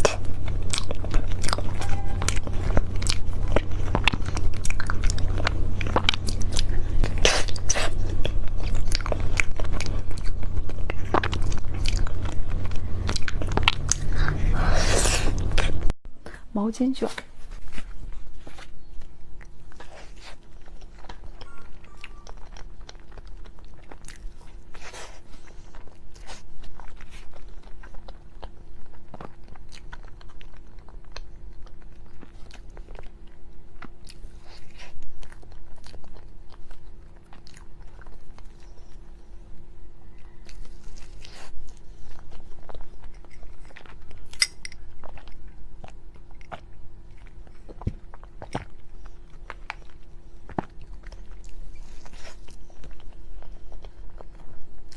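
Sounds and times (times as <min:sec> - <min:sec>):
person chewing soft food: 0:00.0 - 0:16.0, 0:17.3 - 0:54.9
faint steady hum: 0:00.0 - 0:54.9.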